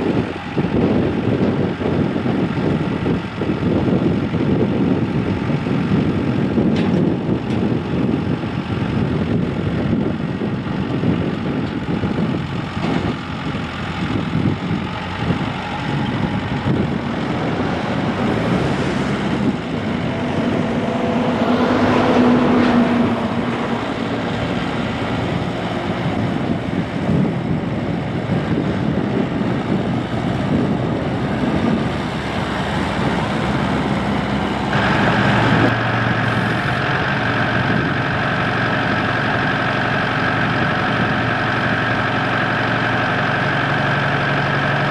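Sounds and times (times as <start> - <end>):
diesel tractor engine running: 0.0 - 44.9
engine idling: 0.0 - 44.9.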